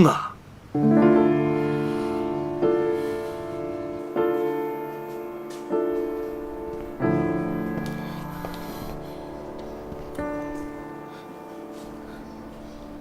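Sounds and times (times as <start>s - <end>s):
slow piano chords: 0.7s - 13.0s.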